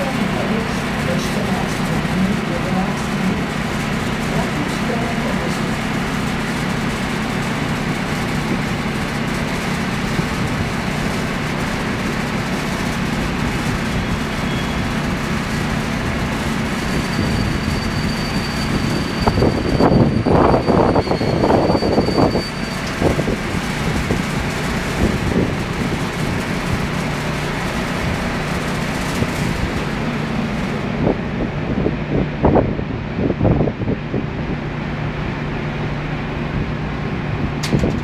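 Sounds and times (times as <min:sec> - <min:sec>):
train rumbling along tracks: 0:00.0 - 0:38.0.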